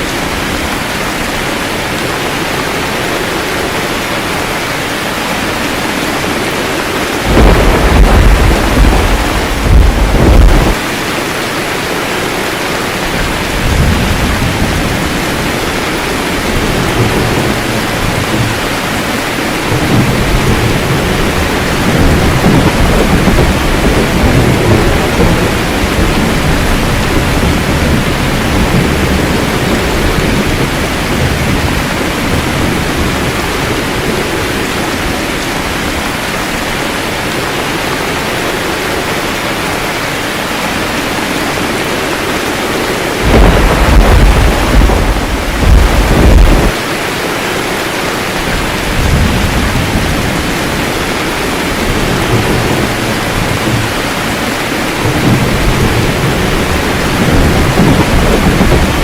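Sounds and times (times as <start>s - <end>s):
heavy rain: 0.0s - 59.0s
rolling thunder rumbles: 0.1s - 11.2s, 12.4s - 39.1s, 40.5s - 47.4s, 48.3s - 59.0s.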